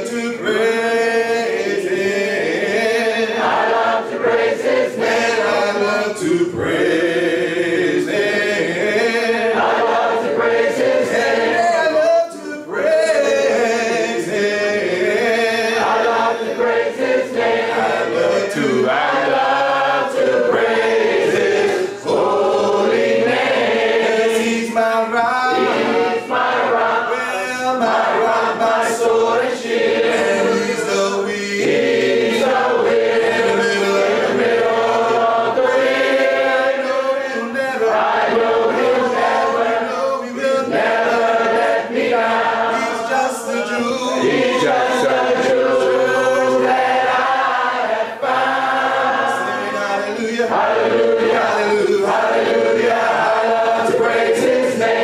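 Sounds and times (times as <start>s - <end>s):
congregation singing a cappella: 0.0s - 55.0s.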